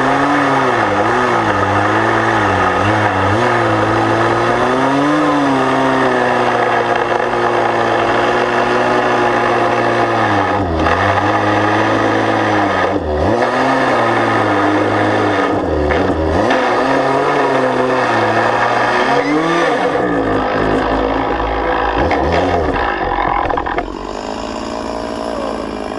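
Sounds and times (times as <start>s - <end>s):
chainsaw cutting hardwood: 0.0s - 25.9s.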